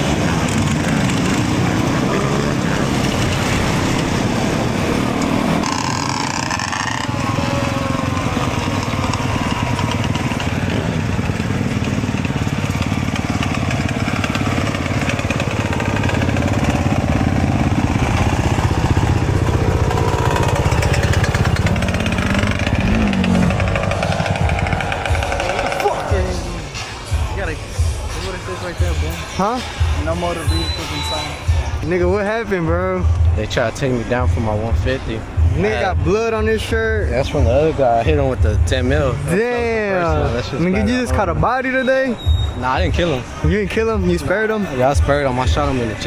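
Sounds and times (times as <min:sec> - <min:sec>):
dirt bike engine: 0:00.0 - 0:46.0.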